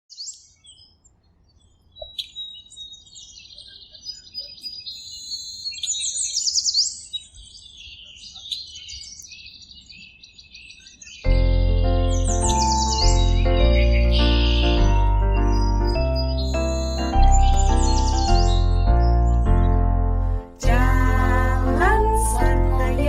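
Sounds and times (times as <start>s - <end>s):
small birds chirping: 0.1s - 19.8s.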